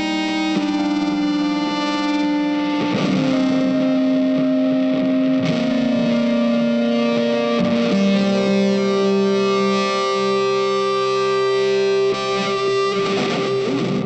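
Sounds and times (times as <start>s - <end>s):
instrumental music with held notes: 0.0s - 14.0s.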